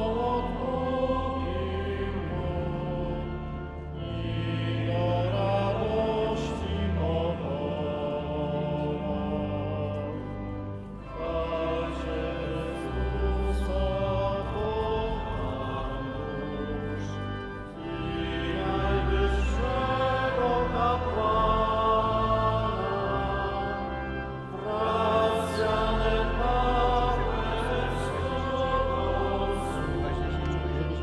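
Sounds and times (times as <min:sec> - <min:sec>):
choir singing liturgical music: 0:00.0 - 0:31.0.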